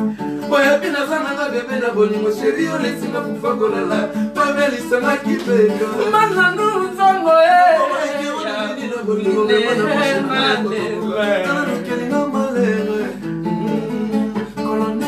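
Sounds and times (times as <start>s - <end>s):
acoustic guitar plucked and strummed: 0.0s - 15.0s
man singing: 0.0s - 15.0s.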